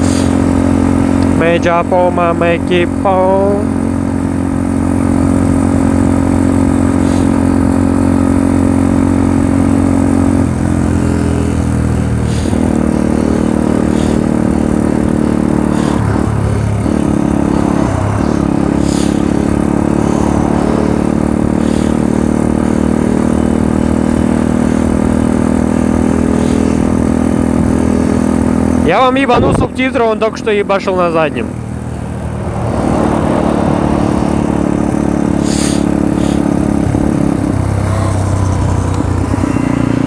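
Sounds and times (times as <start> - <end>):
scooter engine at high revs: 0.0 - 40.0.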